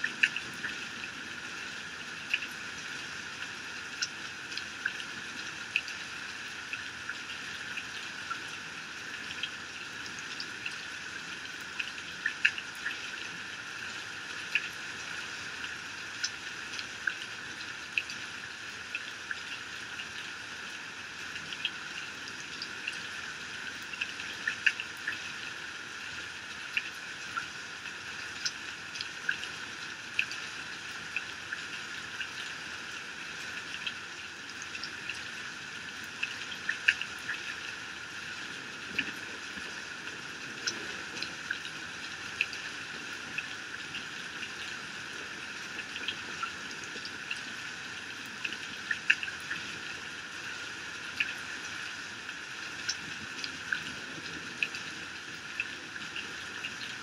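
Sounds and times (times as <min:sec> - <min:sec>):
sharp raindrops striking nearby: 0:00.0 - 0:57.0.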